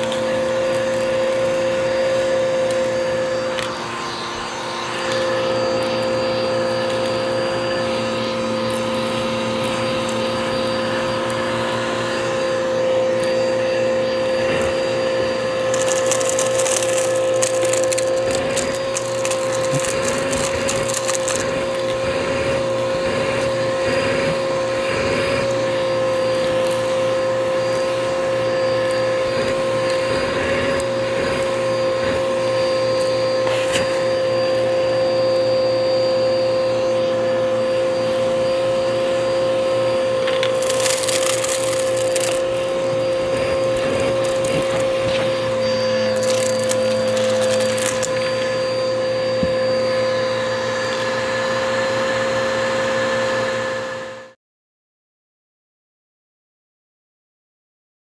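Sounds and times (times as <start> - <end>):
vacuum cleaner motor whine: 0.0 - 54.4.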